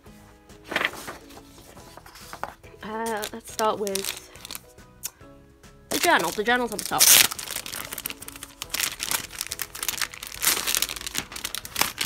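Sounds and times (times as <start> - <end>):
soft background music: 0.0 - 12.0
plastic wrapping crinkling: 0.7 - 4.7, 5.9 - 12.0.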